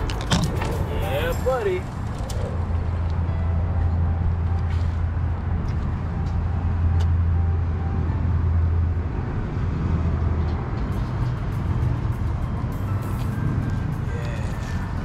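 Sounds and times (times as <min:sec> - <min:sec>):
motor vehicle humming: 0:00.0 - 0:15.0.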